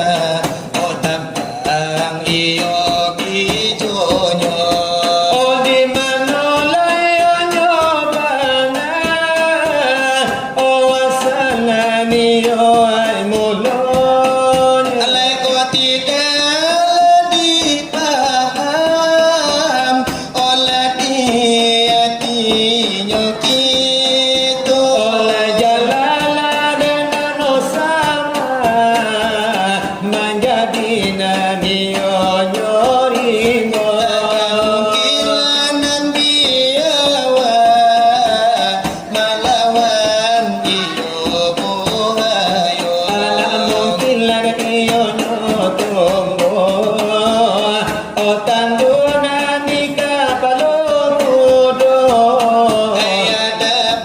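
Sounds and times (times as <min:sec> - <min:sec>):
hands beating a metal tray: 0:00.0 - 0:54.0
person singing devotional chant: 0:00.0 - 0:54.0.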